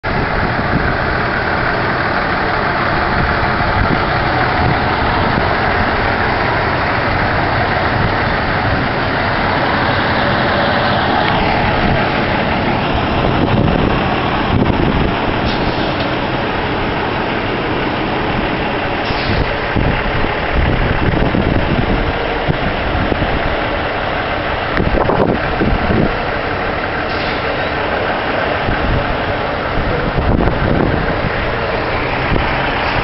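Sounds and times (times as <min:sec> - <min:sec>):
diesel trucks driving past: 0:00.0 - 0:33.0.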